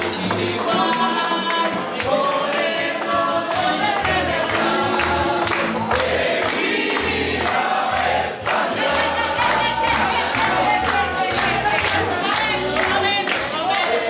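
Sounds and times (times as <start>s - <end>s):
audience clapping along: 0.0s - 14.0s
plucked string instruments: 0.0s - 14.0s
strummed guitar: 0.0s - 14.0s
voices singing: 0.0s - 14.0s.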